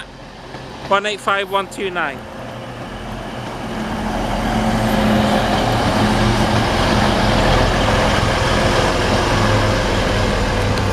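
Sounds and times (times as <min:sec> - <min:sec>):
train diesel engine hum: 0:00.0 - 0:10.9
wheel and rail noise: 0:00.0 - 0:10.9.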